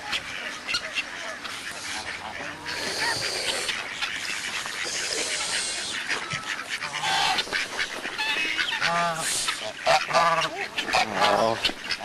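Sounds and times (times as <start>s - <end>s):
ducks and geese calling: 0.0s - 12.0s.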